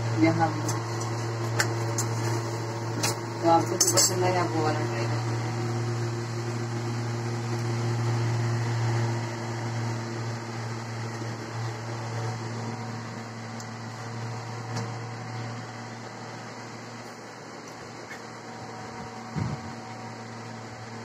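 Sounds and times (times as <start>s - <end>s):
appliance fan motor humming: 0.0s - 21.0s.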